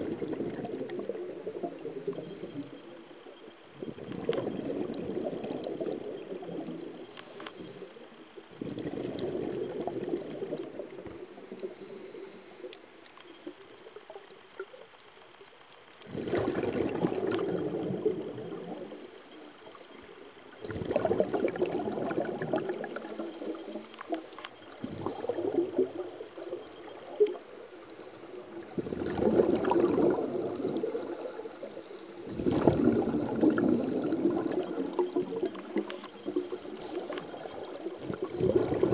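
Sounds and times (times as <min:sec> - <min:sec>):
underwater breath bubbles: 0:00.0 - 0:03.0, 0:03.8 - 0:13.6, 0:16.0 - 0:38.9.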